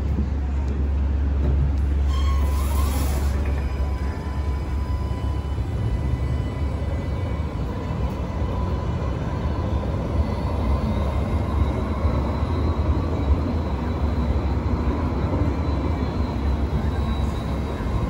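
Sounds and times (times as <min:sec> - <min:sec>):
tram rumbling along track: 0:00.0 - 0:18.0.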